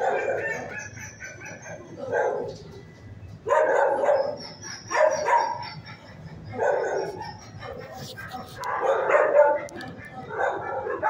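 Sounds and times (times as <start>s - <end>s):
dog barking: 0.0s - 2.6s, 3.4s - 5.9s, 6.5s - 11.0s.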